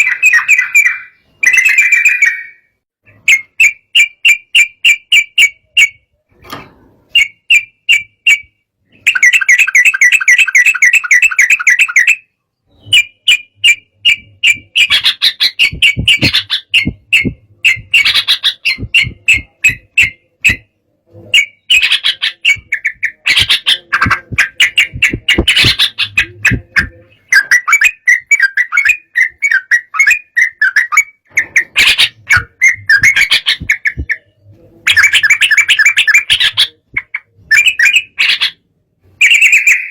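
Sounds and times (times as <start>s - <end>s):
bird chattering song: 0.0s - 6.1s, 7.1s - 38.6s.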